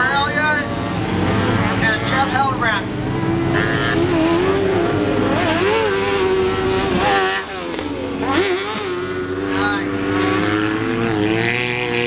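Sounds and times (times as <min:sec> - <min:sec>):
racing buggy engines revving: 0:00.0 - 0:12.0.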